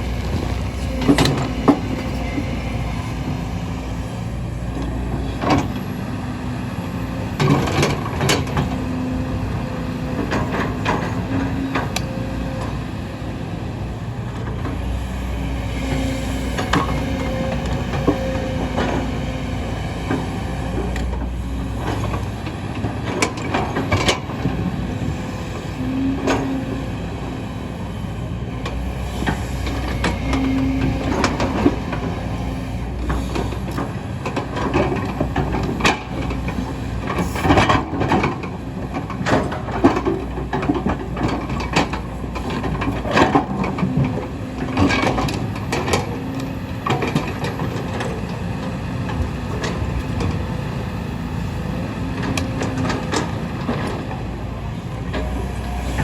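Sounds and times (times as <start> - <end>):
excavator engine running under load: 0.0 - 56.0.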